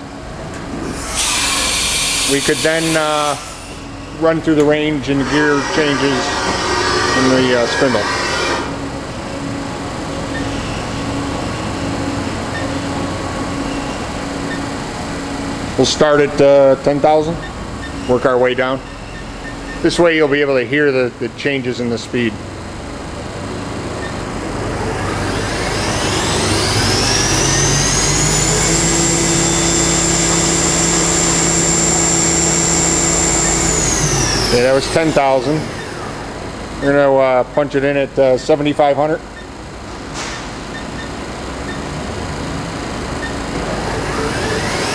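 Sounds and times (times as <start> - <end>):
machine mechanical hum: 0.0 - 44.9.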